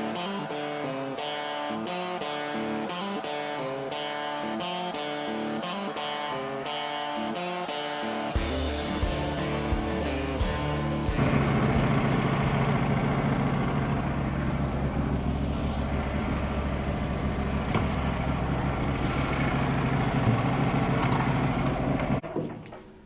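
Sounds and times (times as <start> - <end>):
sawmill engine running: 0.0 - 22.2.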